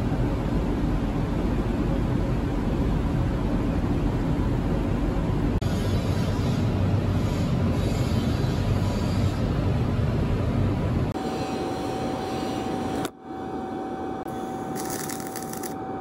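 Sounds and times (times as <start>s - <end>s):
steady humming tone: 0.0s - 16.0s.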